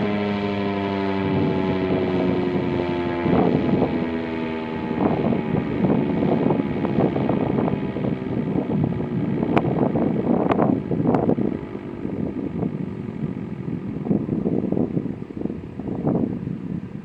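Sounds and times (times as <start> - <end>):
wind gusting across microphone: 1.1 - 17.0.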